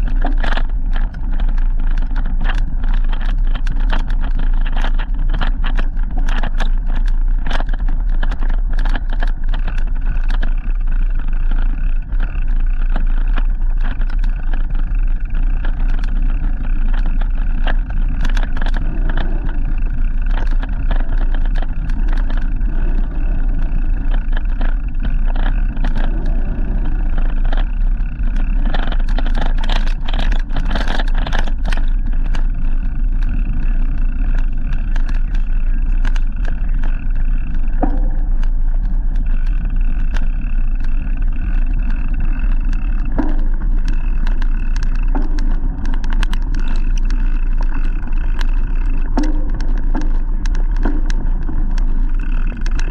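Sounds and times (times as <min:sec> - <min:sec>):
bike tyres on road: 0:00.0 - 0:52.9
clicks and rattles from bumps: 0:00.0 - 0:52.9
wind on microphone: 0:00.0 - 0:52.9.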